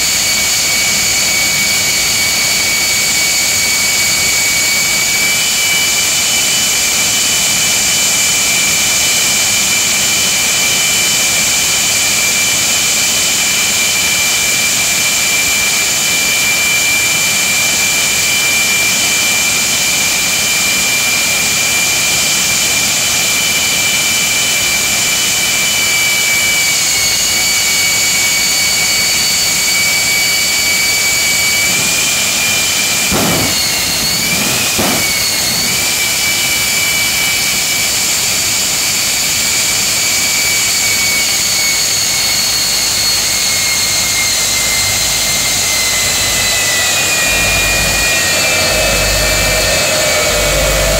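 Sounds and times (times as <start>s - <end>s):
jet engine whining and roaring: 0.0s - 50.9s.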